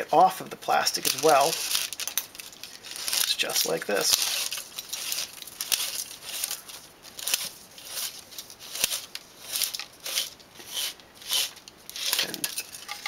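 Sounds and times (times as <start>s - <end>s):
film strip rustling swishes: 0.7s - 13.0s.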